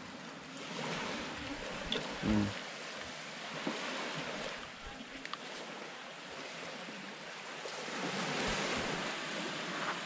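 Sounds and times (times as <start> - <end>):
small waves washing onto sand: 0.0 - 10.0.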